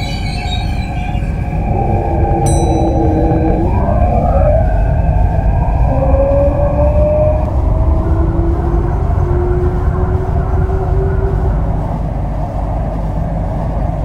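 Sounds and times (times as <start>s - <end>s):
electronic motor whines: 0.0s - 11.9s
electric train accelerating: 0.0s - 14.0s.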